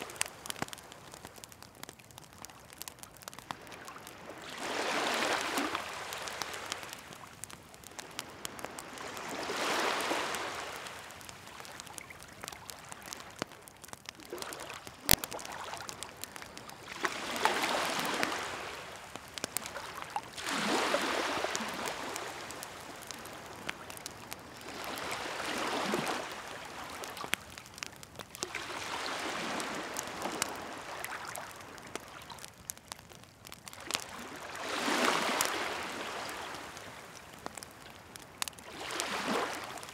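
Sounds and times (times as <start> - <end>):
bonfire crackling and popping: 0.0 - 39.9
sea waves washing ashore: 3.4 - 12.1, 12.7 - 27.6, 28.4 - 32.0, 33.8 - 37.6, 38.6 - 39.9.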